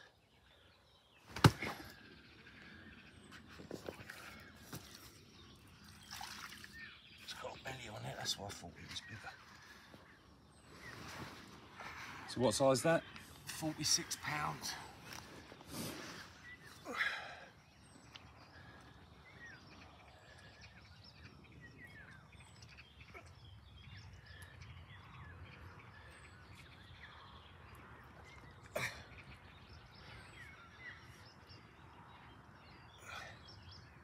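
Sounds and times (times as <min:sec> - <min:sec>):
outdoor background noise: 0:00.0 - 0:34.0
small birds chirping: 0:00.0 - 0:34.0.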